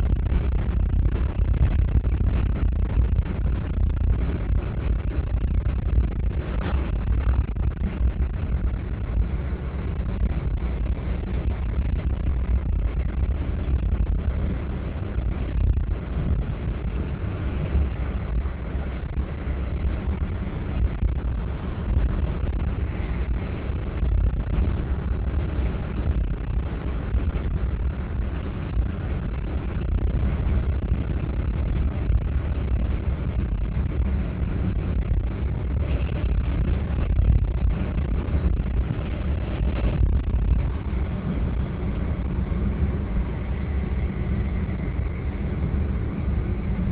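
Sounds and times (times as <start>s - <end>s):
car driving rumble inside cabin: 0.0s - 46.9s.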